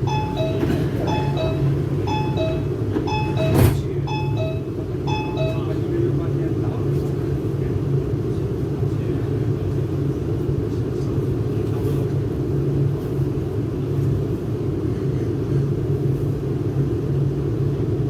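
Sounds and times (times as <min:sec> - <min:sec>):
train rumbling in tunnel: 0:00.0 - 0:18.0.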